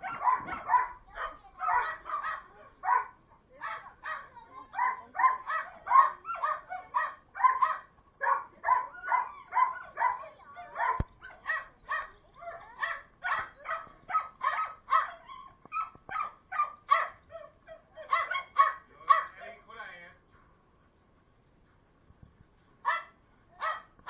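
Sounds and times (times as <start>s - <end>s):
dogs barking: 0.0s - 20.0s, 22.8s - 24.0s.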